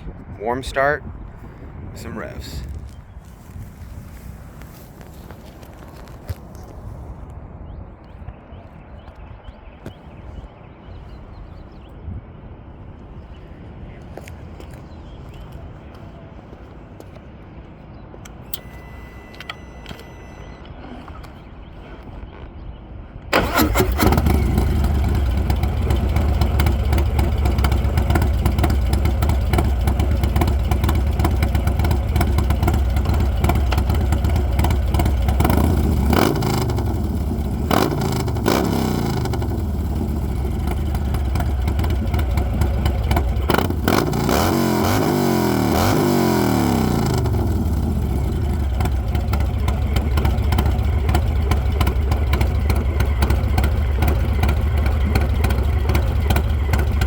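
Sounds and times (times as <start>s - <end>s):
motorcycle engine idling and revving: 2.4s - 7.2s, 13.8s - 57.0s.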